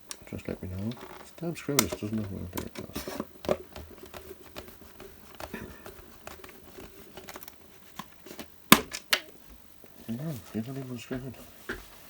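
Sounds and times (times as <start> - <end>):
hands fiddling with packaging: 0.0 - 12.0.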